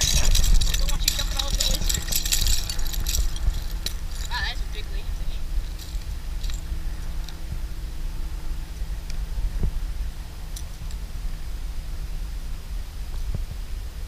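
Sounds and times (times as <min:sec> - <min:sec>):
gusting wind rumble: 0:00.0 - 0:14.0.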